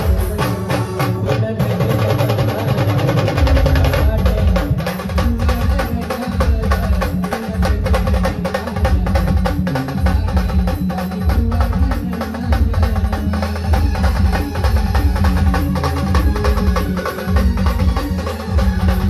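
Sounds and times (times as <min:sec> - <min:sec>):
live band music: 0:00.0 - 0:19.0
rapid drum strokes: 0:00.0 - 0:19.0.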